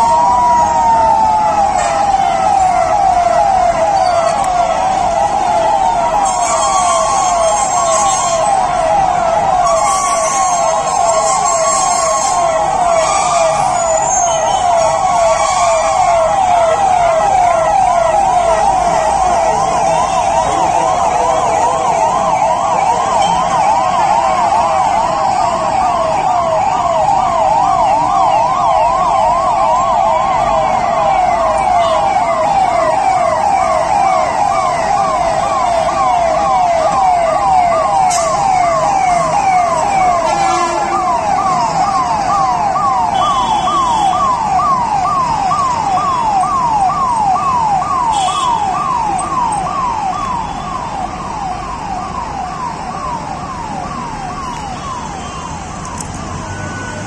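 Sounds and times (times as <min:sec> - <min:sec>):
fire engine siren yelping: 0:00.0 - 0:57.0
road traffic: 0:00.0 - 0:57.0.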